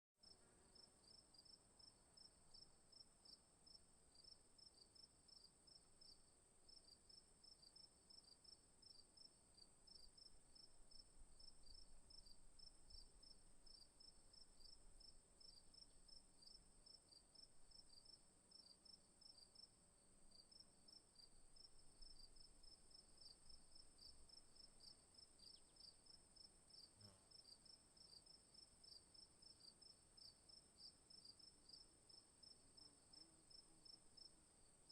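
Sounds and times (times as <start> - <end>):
crickets chirping: 0.7 - 19.7, 20.3 - 34.9.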